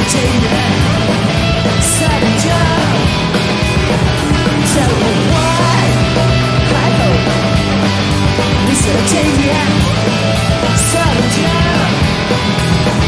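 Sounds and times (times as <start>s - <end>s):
distorted electric guitars: 0.0s - 13.0s
driving drum beat: 0.0s - 13.0s.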